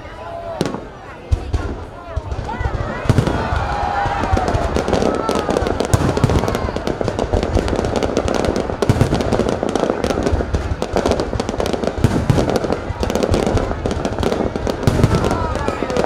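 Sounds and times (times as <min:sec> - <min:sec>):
fireworks crackling: 0:00.0 - 0:16.0
deep firework bangs: 0:00.6 - 0:16.0.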